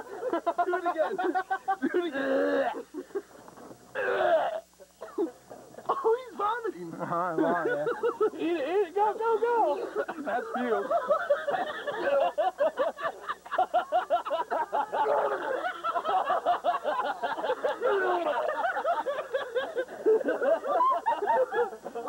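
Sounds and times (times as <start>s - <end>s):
people laughing: 0.0s - 5.9s, 7.0s - 22.0s.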